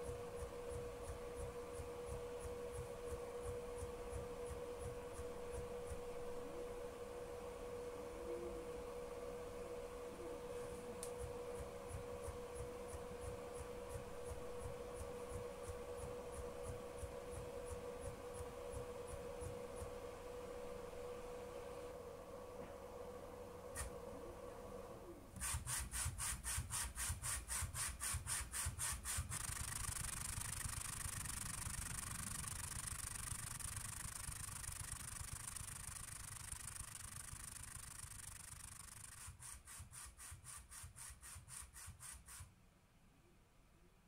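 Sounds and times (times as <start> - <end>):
stepper motor pulsing and whirring: 0.0 - 22.0, 25.4 - 39.4.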